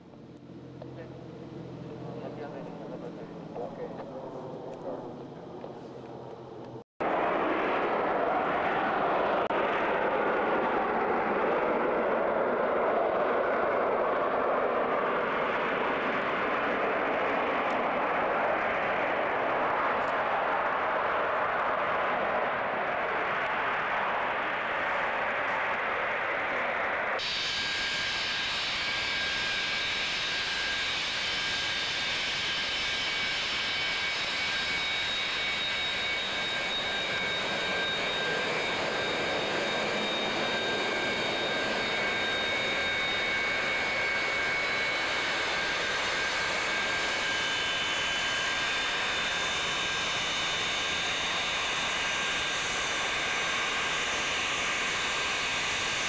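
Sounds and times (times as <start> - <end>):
high engine whine: 0.0 - 56.0
jet engines running: 0.0 - 56.0.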